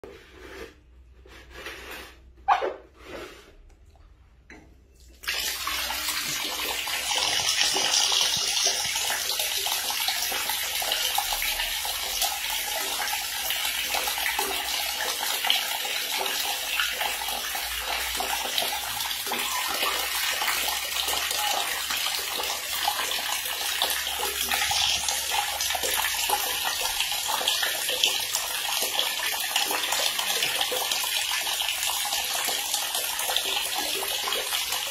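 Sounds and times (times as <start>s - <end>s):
tap water pouring into tub: 5.0s - 34.9s.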